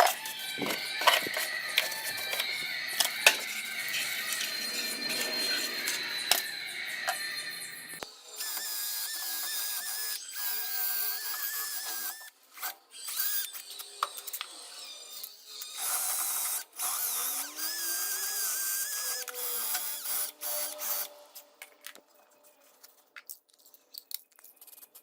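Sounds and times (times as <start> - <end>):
wire brush power tool on metal: 0.0 - 21.6.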